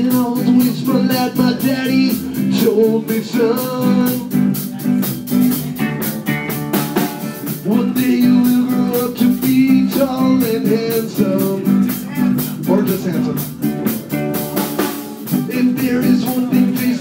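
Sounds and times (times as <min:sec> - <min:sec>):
rockabilly band playing live: 0:00.0 - 0:17.0.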